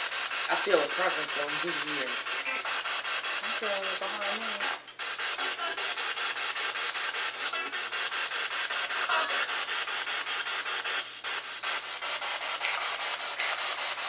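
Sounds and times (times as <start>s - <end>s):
choppy radio static: 0.0s - 14.0s
pulsing white noise hiss: 0.0s - 14.0s.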